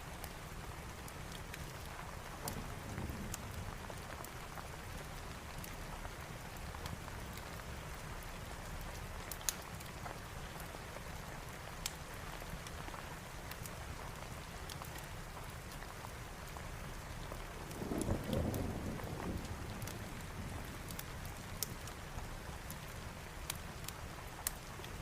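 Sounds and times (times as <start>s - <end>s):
steady rain falling: 0.0s - 25.0s
fireplace crackling and popping: 0.1s - 25.0s.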